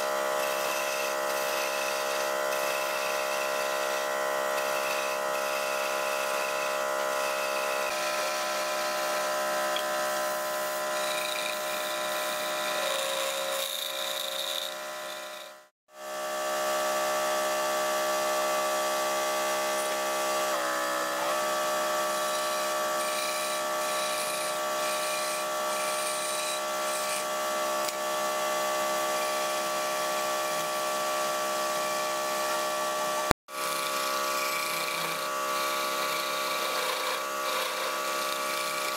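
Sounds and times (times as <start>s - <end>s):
chisel scraping spinning wood: 0.0s - 15.7s, 19.4s - 32.7s, 33.5s - 38.9s
lathe motor whine: 0.0s - 38.9s.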